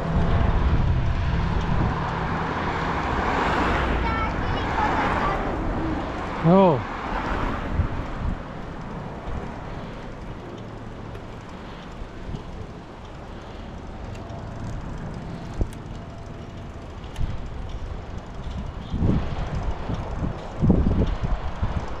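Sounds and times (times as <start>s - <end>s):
bicycle road rumble: 0.0s - 22.0s
wind from riding a bicycle: 0.0s - 22.0s.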